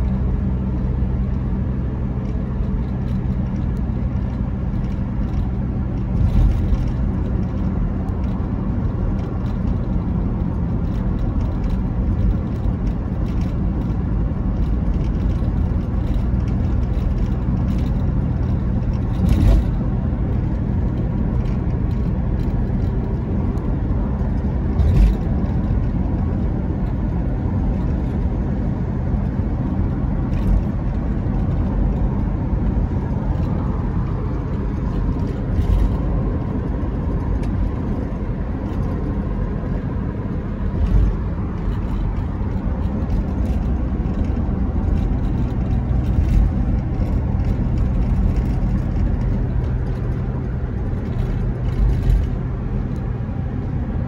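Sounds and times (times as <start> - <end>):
car engine and tyre drone: 0.0 - 54.0.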